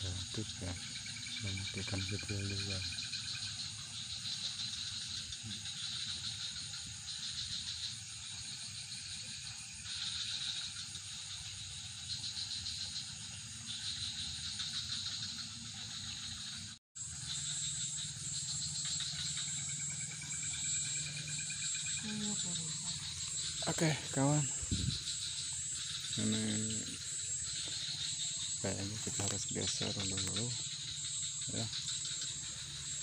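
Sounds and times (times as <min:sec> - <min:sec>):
crickets and insects trilling: 0:00.0 - 0:33.0.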